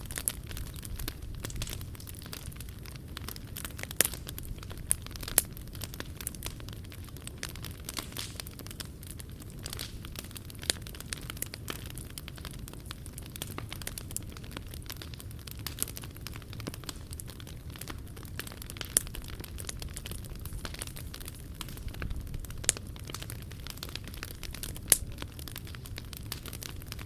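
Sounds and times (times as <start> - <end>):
loud fire pops: 0.0 - 27.0
low fire rumble: 0.0 - 27.0
wood fire crackling and popping: 0.0 - 27.0.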